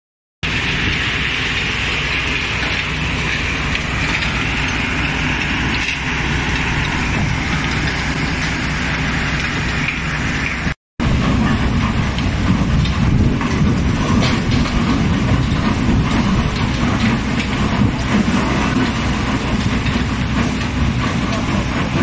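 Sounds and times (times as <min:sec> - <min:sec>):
crushing machinery rumble: 0:00.4 - 0:22.0.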